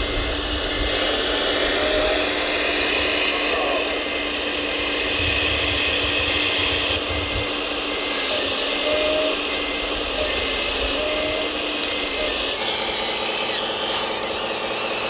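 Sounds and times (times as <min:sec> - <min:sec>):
small hydraulic pump whining: 0:00.0 - 0:15.0.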